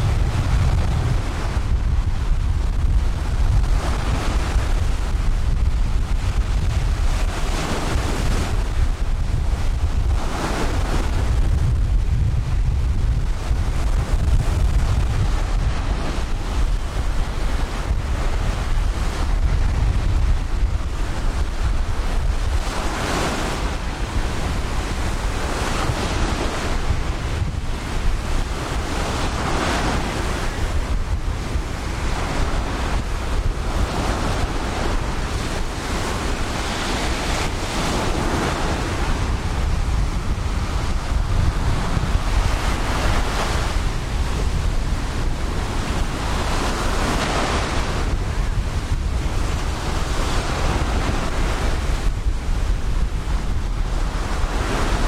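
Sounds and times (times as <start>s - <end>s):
waves breaking on beach: 0.0s - 55.0s
wind rumble on microphone: 0.0s - 55.0s.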